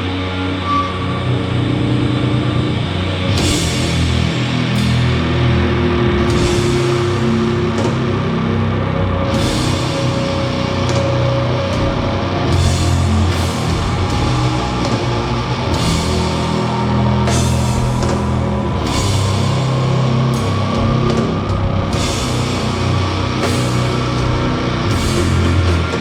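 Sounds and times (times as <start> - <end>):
doom metal band playing: 0.0 - 26.0
cymbal crash: 3.2 - 26.0.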